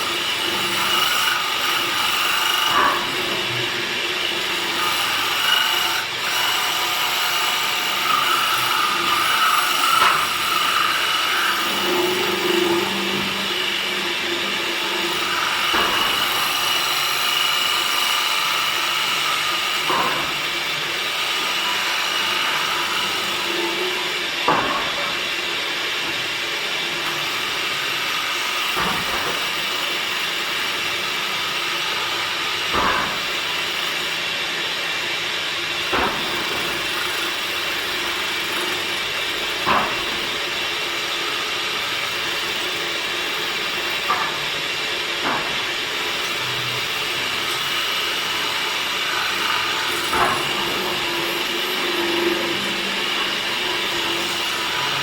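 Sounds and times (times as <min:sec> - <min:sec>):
woodworking power tool running: 0:00.0 - 0:55.0.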